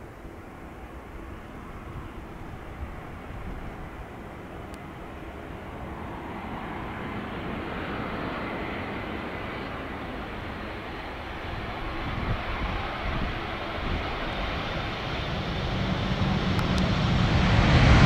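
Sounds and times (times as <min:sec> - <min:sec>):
jet engines hiss and rumble: 0:00.0 - 0:18.0.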